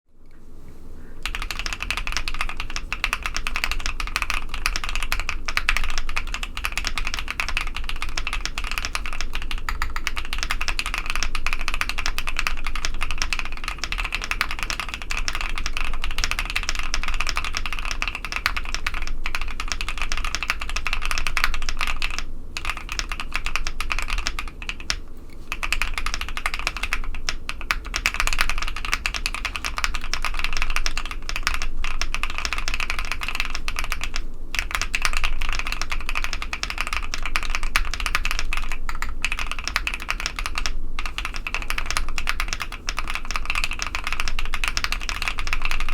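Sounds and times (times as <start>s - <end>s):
fast typing on mechanical keyboard: 1.2s - 45.9s.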